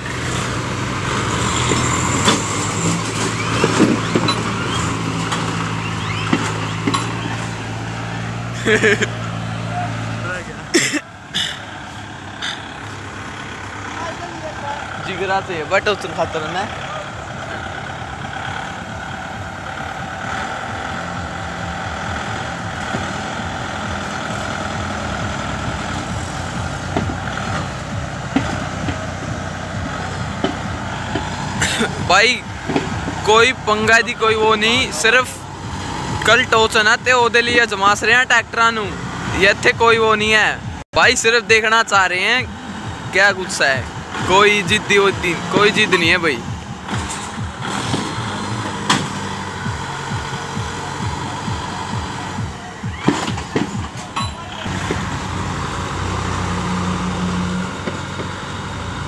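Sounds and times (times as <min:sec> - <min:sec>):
tractor engines under heavy load: 0:00.0 - 0:59.0.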